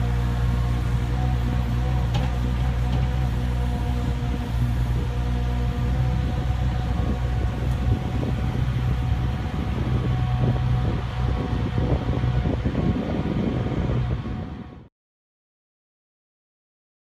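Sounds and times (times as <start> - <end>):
miniloader engine running: 0.0 - 14.8.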